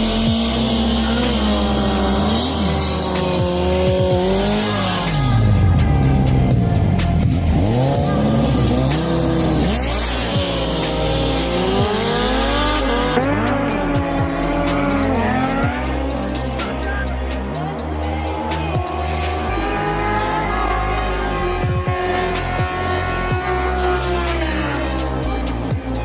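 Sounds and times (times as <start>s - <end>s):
motorcycle engines revving: 0.0s - 26.0s
music with heavy bass line: 0.0s - 26.0s.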